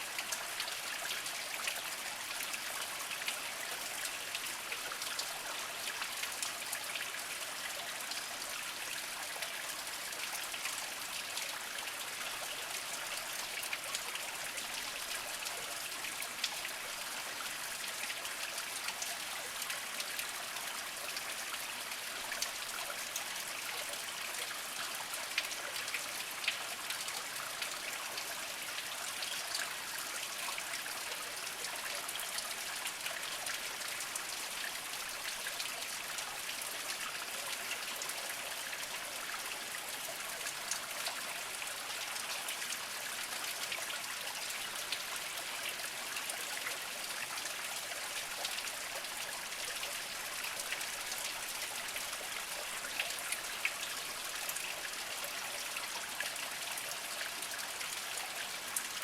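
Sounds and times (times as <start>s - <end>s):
water drips and splashes: 0.0s - 59.0s.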